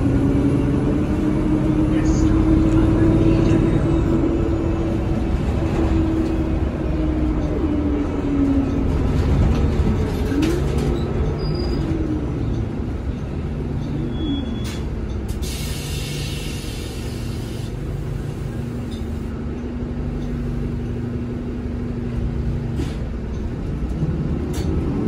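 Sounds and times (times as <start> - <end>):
bus engine rumble and whine: 0.0 - 25.0
rattles inside bus: 0.0 - 25.0.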